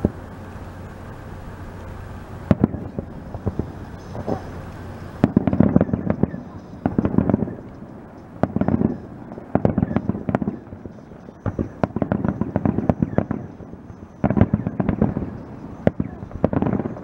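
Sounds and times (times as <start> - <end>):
fireworks bursting: 0.0 - 17.0
fireworks crackling: 0.0 - 17.0.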